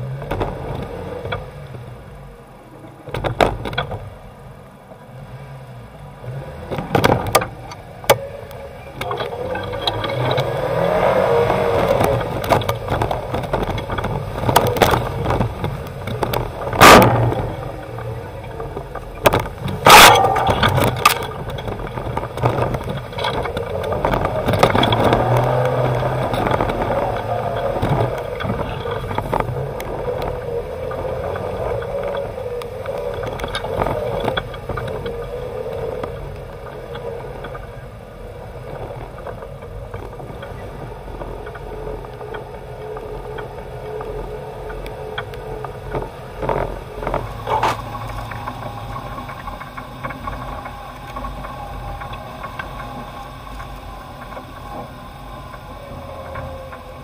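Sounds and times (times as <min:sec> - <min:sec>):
vehicle knocks and bangs: 0:00.0 - 0:04.6, 0:06.2 - 0:57.0
off-road vehicle engine revving: 0:00.0 - 0:57.0.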